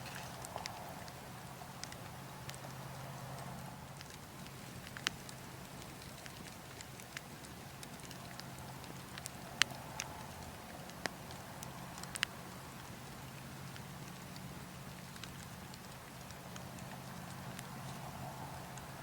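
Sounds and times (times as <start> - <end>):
burning logs crackling: 0.0 - 19.0
low rush of wind: 0.0 - 19.0.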